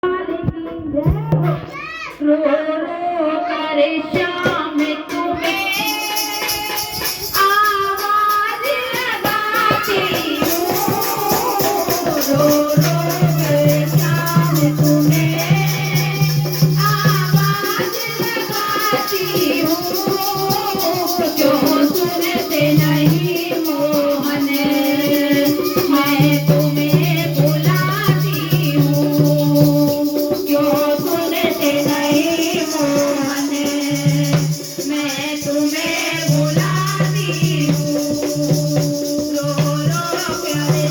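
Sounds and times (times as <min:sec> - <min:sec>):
woman singing: 0:00.0 - 0:01.6, 0:02.2 - 0:40.9
shaker rhythm: 0:04.2 - 0:40.9
held accompanying tones: 0:05.1 - 0:40.9.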